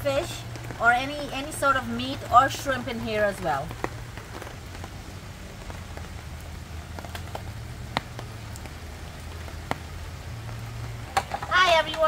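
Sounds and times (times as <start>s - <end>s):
rain pattering on a tent roof: 0.0s - 12.0s.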